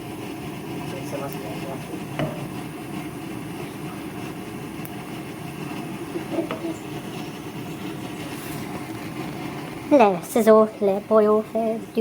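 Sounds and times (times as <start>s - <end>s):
food sizzling in a pan: 1.0s - 12.0s.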